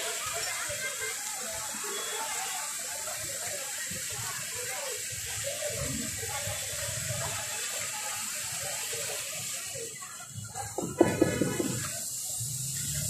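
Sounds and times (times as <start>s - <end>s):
faint chatter: 0.0s - 13.0s
hot oil sizzling in a fryer: 0.0s - 13.0s.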